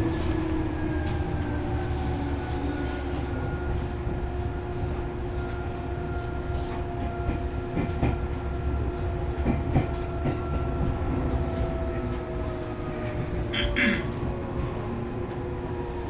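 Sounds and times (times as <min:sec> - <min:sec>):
train rumble and motor whine: 0:00.0 - 0:16.0.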